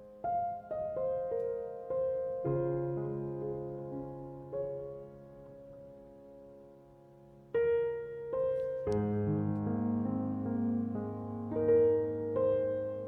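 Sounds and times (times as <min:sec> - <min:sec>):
gentle solo piano: 0:00.0 - 0:13.0.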